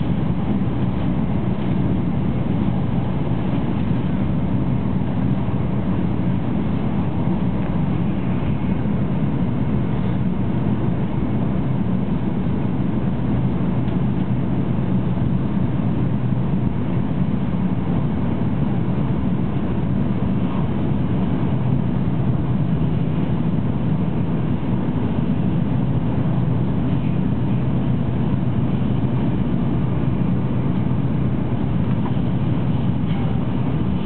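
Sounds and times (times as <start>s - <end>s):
train cabin rumble: 0.0s - 34.0s.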